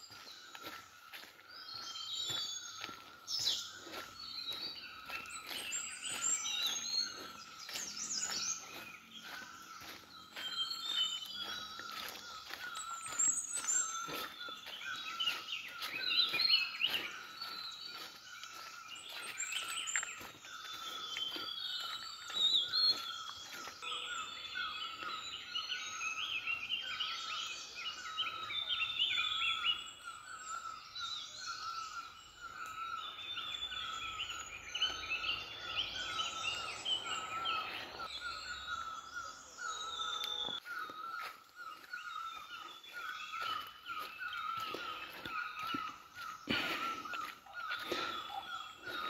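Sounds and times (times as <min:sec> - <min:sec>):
flock of small birds chirping: 0:00.0 - 0:49.0.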